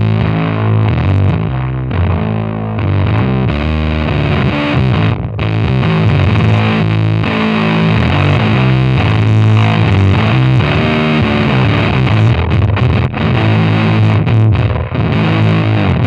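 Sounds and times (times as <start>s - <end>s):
distorted fuzz bass riff: 0.0s - 16.0s.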